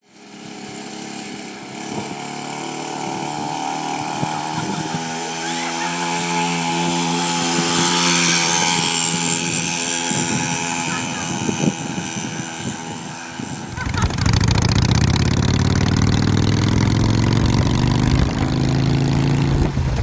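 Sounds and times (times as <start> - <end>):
small motorcycle engine running: 0.0 - 20.0.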